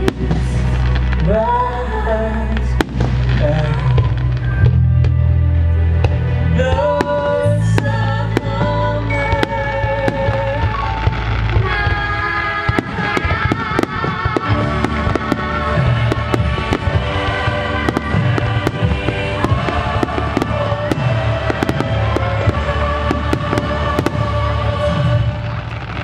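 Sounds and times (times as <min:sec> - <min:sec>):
fireworks bangs: 0:00.0 - 0:01.7, 0:02.5 - 0:05.2, 0:06.0 - 0:26.0
music with pulsing bass: 0:00.0 - 0:26.0.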